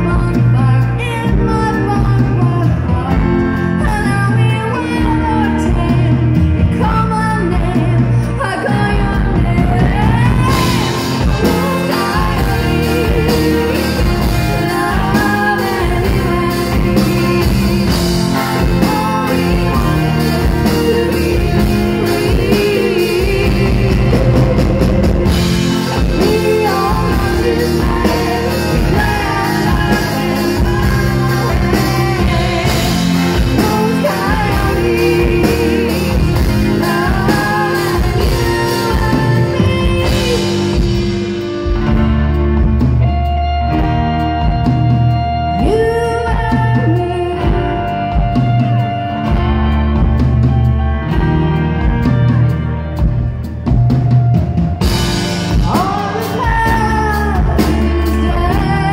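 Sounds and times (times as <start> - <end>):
drum kit: 0.0 - 58.9
electric guitar: 0.0 - 58.9
woman singing lead: 0.0 - 58.9.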